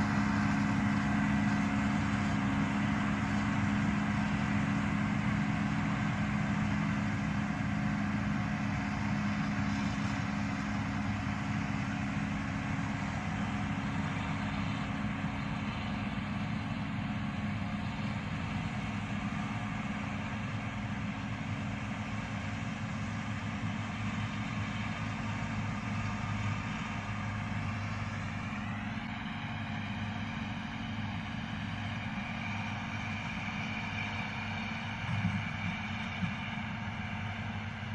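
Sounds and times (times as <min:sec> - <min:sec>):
distant tractor engine mowing: 0:00.0 - 0:37.9.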